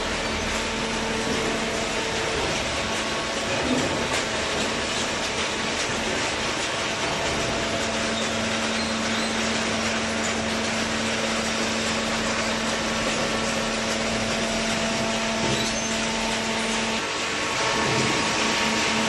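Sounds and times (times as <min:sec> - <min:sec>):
hydraulic power unit hum: 0:00.0 - 0:19.0.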